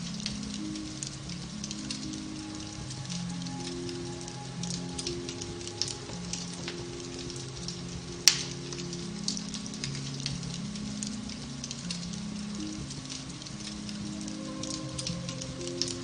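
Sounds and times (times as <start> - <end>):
fire crackling: 0.0 - 16.0
soft slow piano music: 0.0 - 16.0.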